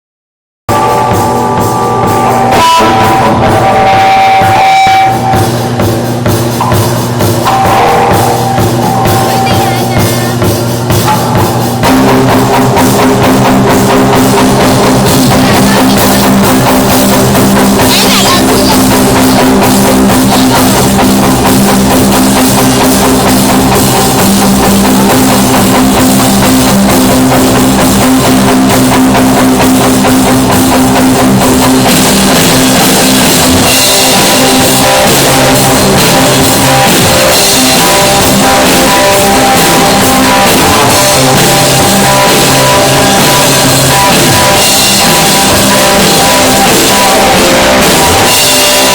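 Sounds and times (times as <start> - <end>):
bass guitar: 0.7 - 48.9
drum kit: 0.7 - 48.9
electric guitar: 0.7 - 48.9.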